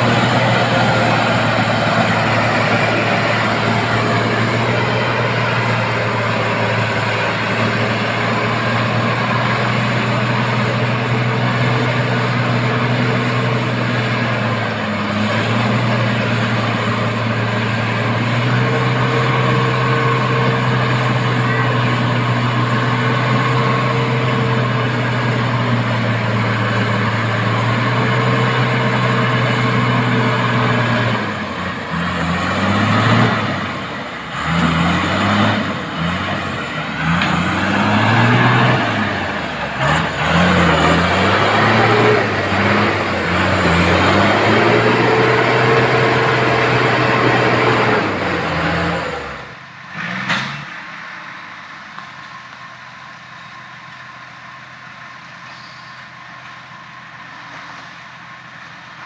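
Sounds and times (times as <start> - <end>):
truck diesel engine at high revs: 0.0 - 59.0.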